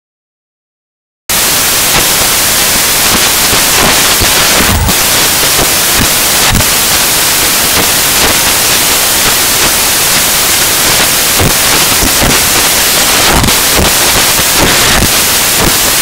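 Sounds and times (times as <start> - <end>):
static hiss: 1.3 - 16.0.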